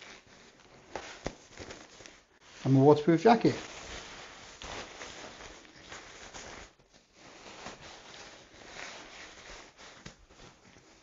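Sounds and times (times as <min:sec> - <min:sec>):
backpack fabric scraping: 0:00.0 - 0:11.0
nylon jacket rustling: 0:00.0 - 0:11.0.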